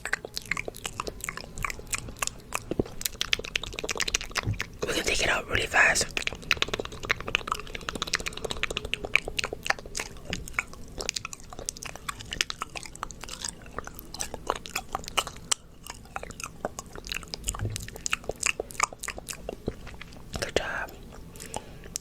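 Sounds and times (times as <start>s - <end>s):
wet mouth clicks and smacks: 0.0s - 22.0s.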